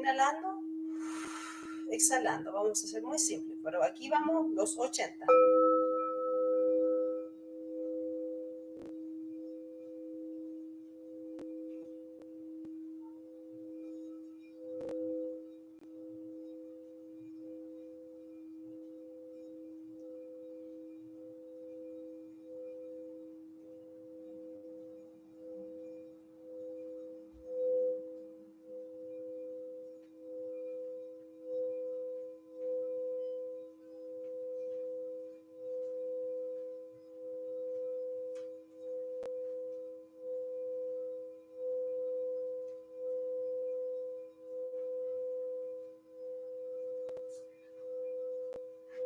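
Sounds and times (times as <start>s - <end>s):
singing bowls ringing: 0.0s - 49.0s.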